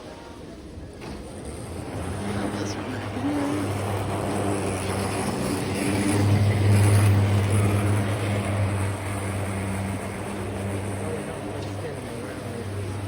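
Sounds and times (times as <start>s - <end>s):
model train wheels rumbling: 0.6s - 13.0s
model train motor hum: 1.0s - 13.0s.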